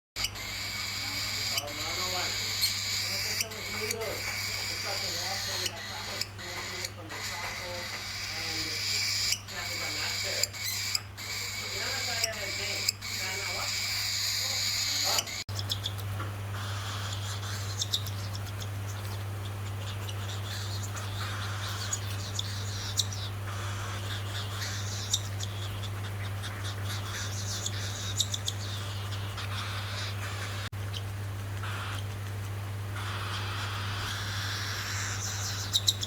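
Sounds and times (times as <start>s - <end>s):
cockatiel squeaky chirps: 0.2s - 31.0s, 31.6s - 32.1s, 33.0s - 36.0s
low electrical hum: 0.2s - 36.0s.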